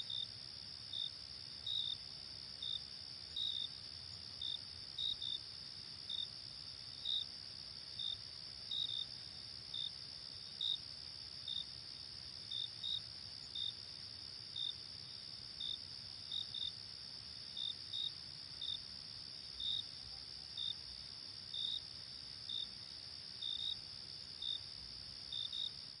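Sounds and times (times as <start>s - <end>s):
cricket chirps: 0.0s - 26.0s.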